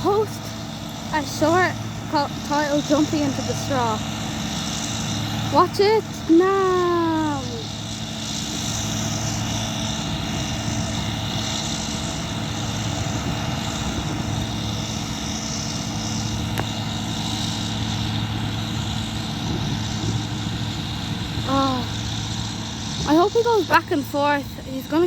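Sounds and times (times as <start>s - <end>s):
combine harvester drone: 0.0s - 25.0s.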